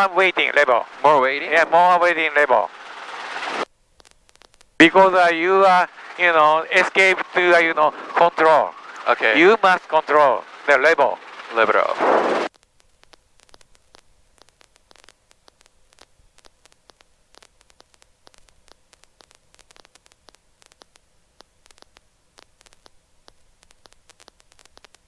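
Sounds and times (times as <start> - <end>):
crackling clicks: 0.0 - 25.0
faint steady hum: 0.0 - 25.0
radio static hiss: 0.0 - 25.0.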